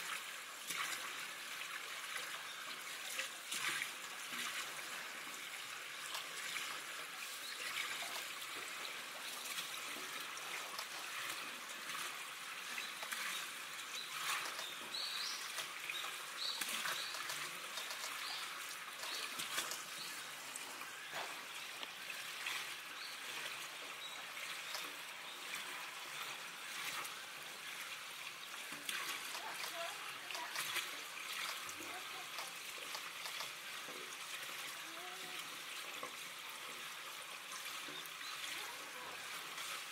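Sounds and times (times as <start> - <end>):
water trickling into a pool: 0.0 - 39.9.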